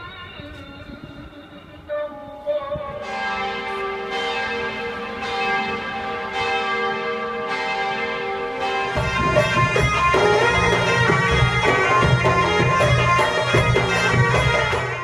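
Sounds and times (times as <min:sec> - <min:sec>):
church bell ringing: 0:00.0 - 0:15.0.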